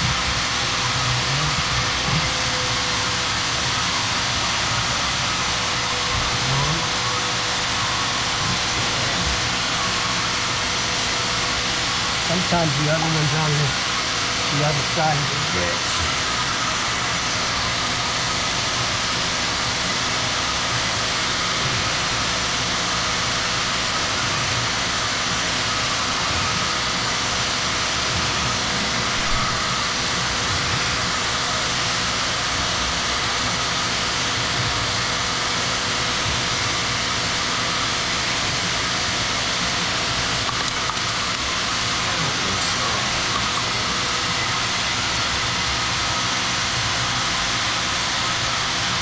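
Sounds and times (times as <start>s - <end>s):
machine running loudly: 0.0s - 49.0s.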